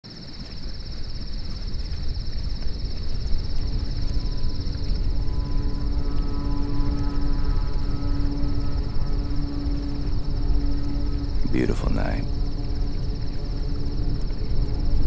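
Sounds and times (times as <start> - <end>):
crickets trilling: 0.0 - 15.0
steady low hum: 0.8 - 15.0.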